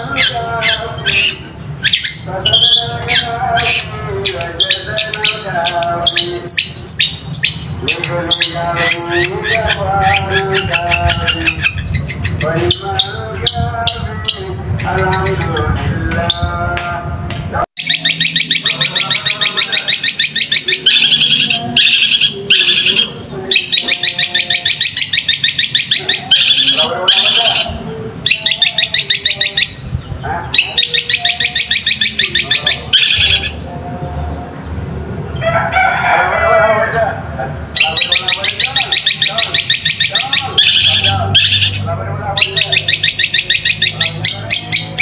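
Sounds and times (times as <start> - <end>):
bird singing sharp repeated notes: 0.0 - 35.4, 37.5 - 45.0
shrike chattering song: 0.0 - 35.5, 37.2 - 45.0.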